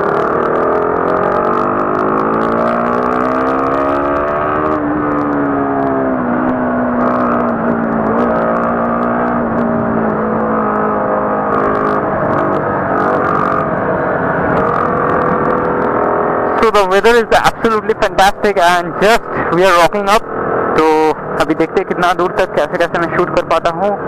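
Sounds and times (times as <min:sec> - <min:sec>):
motorcycle engine accelerating: 0:00.0 - 0:24.0
wind and road rush: 0:00.0 - 0:24.0.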